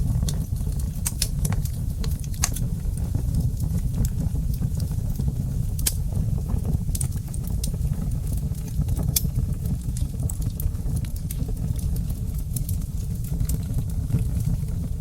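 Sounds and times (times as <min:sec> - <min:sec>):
fire burning rumble: 0:00.0 - 0:15.0
fire crackling and popping: 0:00.0 - 0:15.0.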